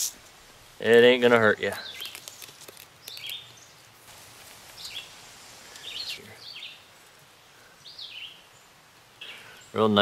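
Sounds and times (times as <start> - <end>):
faint outdoor hiss: 0.0 - 10.0
songbird chirping: 0.0 - 10.0.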